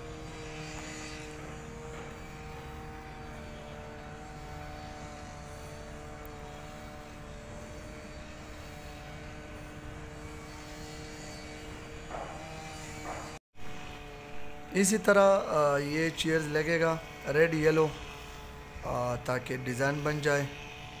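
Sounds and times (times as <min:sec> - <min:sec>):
steady mechanical drone: 0:00.0 - 0:21.0.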